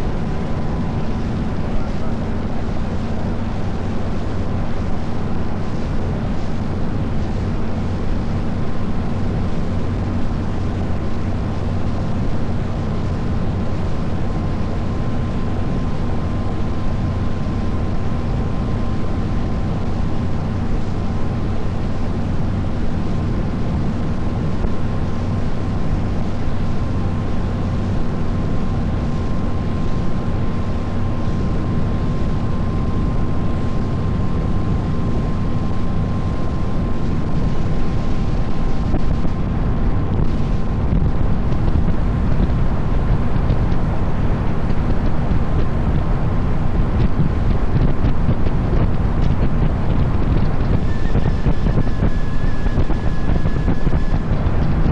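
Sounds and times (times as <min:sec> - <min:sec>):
boat engine droning: 0:00.0 - 0:54.9
high engine whine: 0:00.0 - 0:54.9.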